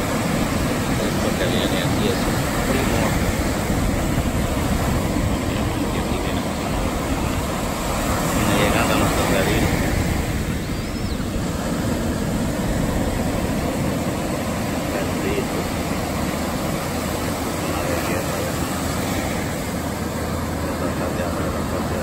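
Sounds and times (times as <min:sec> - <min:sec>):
ocean surf breaking on a beach: 0:00.0 - 0:22.0.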